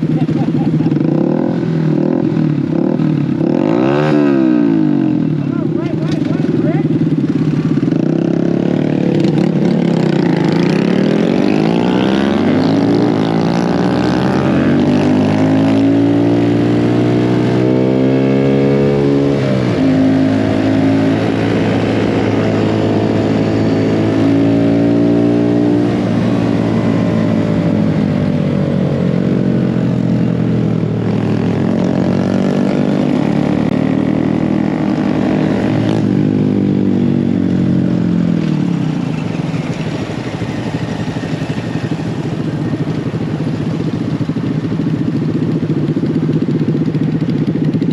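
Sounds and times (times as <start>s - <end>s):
mini bike engine revving: 0.0s - 47.9s.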